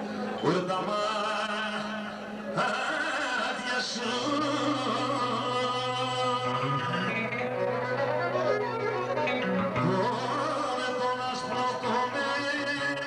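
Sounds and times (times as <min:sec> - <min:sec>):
man singing through microphone: 0:00.0 - 0:13.0.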